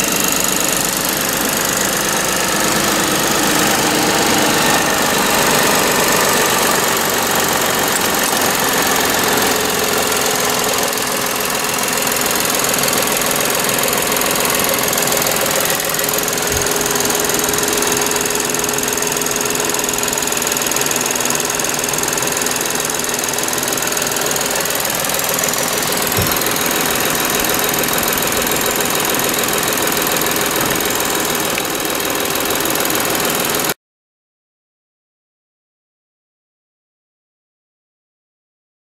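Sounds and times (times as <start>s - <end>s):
car engine idling: 0.1s - 33.7s.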